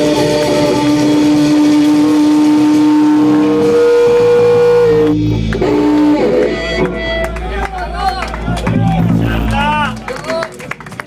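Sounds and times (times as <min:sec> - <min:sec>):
electric guitar sustained notes: 0:00.0 - 0:10.5.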